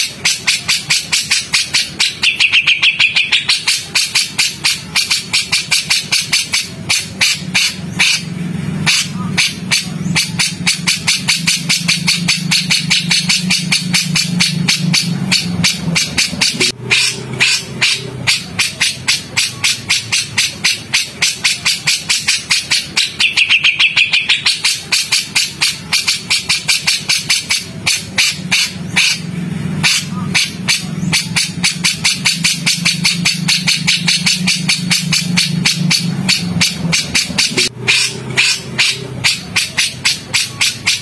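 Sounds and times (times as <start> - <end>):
songbird harsh rapid calls: 0.0 - 41.0.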